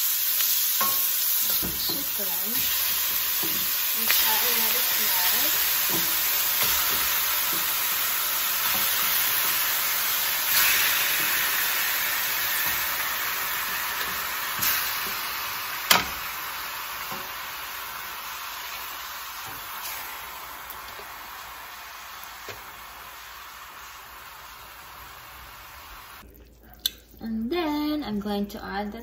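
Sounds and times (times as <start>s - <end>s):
chicken sizzling in a pot: 0.0s - 26.2s.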